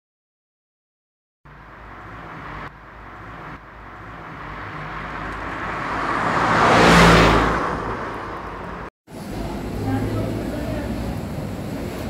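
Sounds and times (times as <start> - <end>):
car interior engine hum: 1.5 - 11.6
vehicle passing rush: 1.5 - 12.0.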